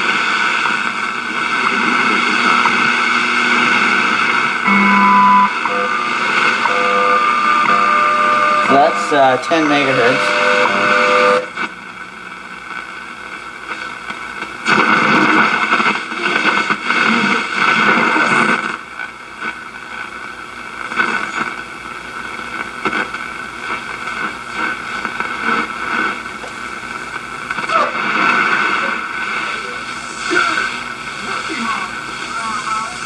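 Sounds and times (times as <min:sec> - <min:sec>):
radio static hiss: 0:00.0 - 0:33.0.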